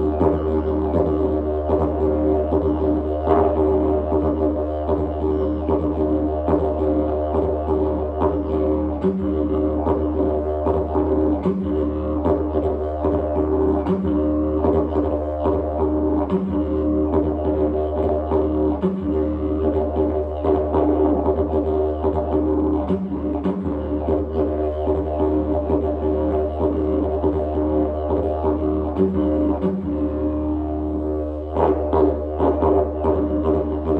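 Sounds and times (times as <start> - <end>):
didgeridoo drone: 0.0 - 33.9.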